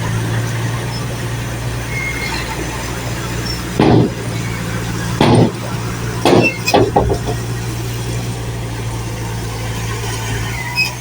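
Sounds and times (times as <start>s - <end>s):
construction machinery humming: 0.0s - 11.0s.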